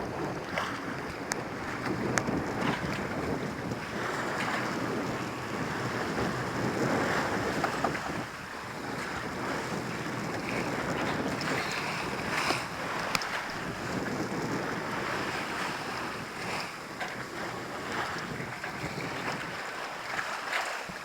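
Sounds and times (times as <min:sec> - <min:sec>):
water washing against boat: 0:00.0 - 0:21.0
wind buffeting microphone: 0:00.0 - 0:21.0.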